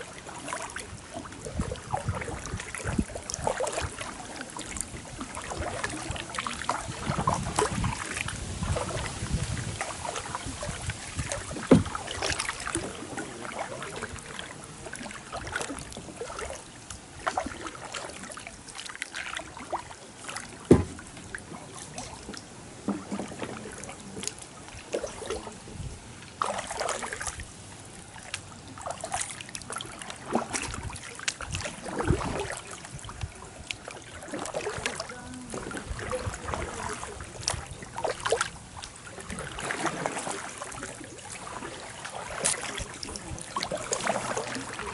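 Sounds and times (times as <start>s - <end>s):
paddle splashing in water: 0.0s - 44.9s.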